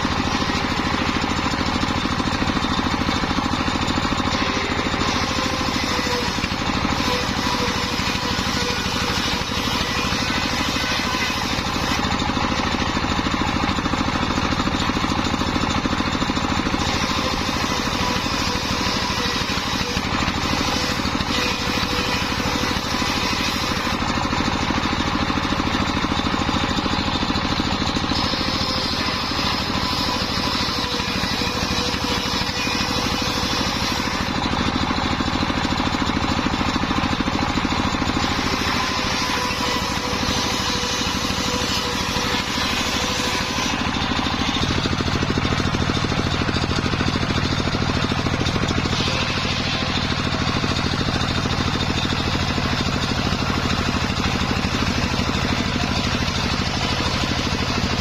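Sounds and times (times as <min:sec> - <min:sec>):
saw blade whine: 0:00.0 - 0:58.0
sawmill engine pulsing: 0:00.0 - 0:58.0.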